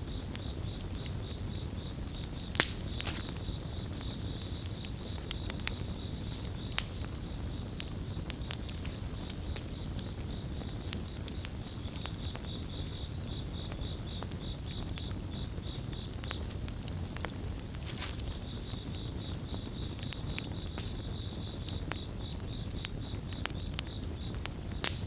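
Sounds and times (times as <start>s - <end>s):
campfire crackling: 0.0s - 25.0s
crickets chirping: 0.0s - 25.0s.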